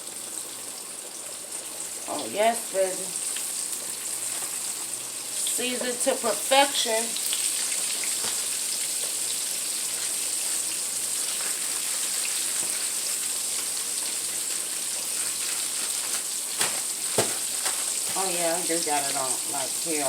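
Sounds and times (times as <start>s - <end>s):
chicken wings sizzling in oil: 0.0s - 20.0s.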